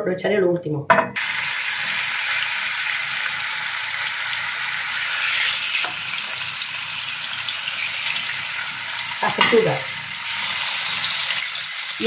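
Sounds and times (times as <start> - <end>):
meat sizzling in hot oil: 1.2 - 12.0.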